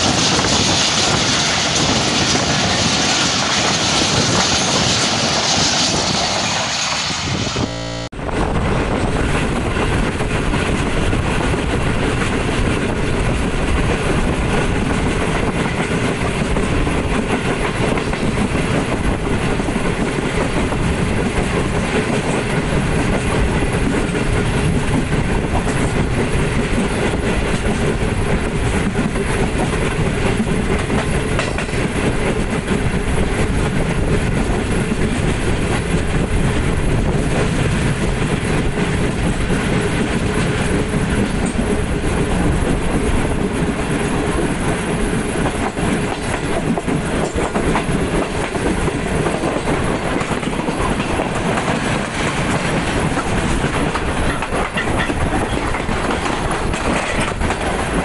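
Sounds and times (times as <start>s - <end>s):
train wheels rumbling and rattling: 0.0s - 58.0s.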